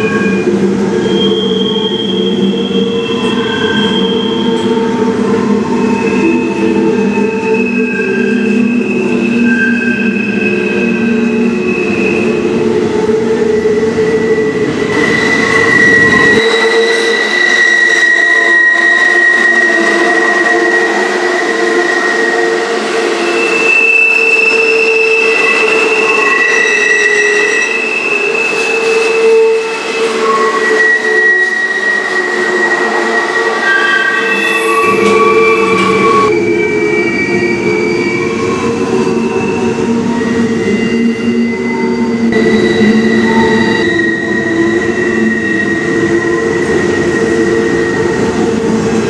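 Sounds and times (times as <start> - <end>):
high wheel squeal: 0.0 - 49.0
train wheels rumbling on rails: 0.0 - 49.0.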